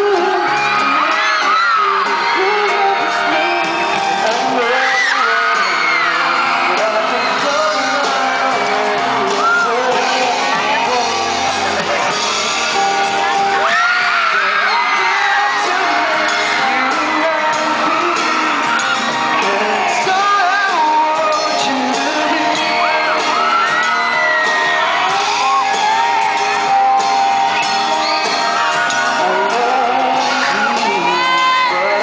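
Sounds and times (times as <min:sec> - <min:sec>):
amplified pop music: 0:00.0 - 0:32.0
fans shouting and whooping: 0:00.0 - 0:32.0
person singing into microphone: 0:00.0 - 0:32.0.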